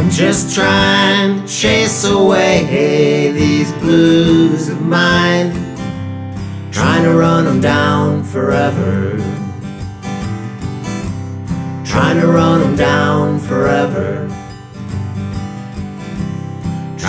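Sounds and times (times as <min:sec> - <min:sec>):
acoustic guitar playing blues: 0:00.0 - 0:17.0.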